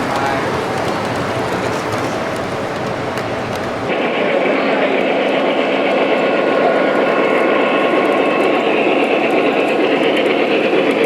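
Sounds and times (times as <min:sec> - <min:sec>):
model trains rolling rumble: 0:00.0 - 0:11.0.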